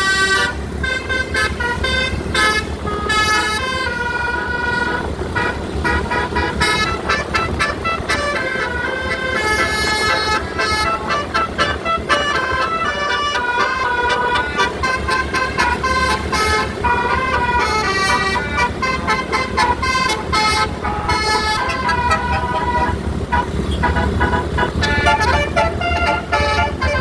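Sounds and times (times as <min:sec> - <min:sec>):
bus engine running: 0:00.0 - 0:27.0
musical air horns melody: 0:00.0 - 0:27.0.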